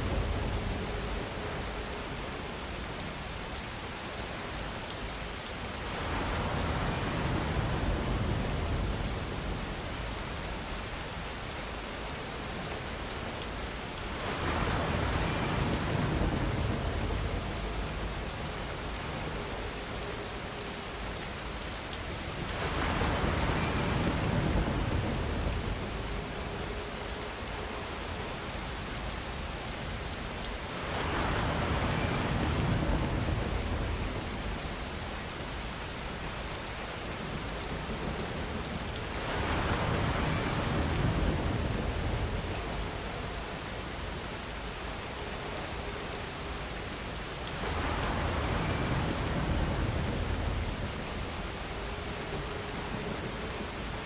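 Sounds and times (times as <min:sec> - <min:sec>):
steady rain: 0:00.0 - 0:54.0
wind: 0:00.0 - 0:54.0.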